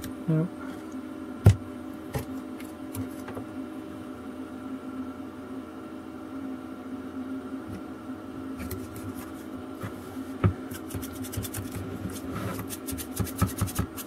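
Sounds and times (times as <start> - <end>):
vacuum pump humming: 0.0 - 14.0.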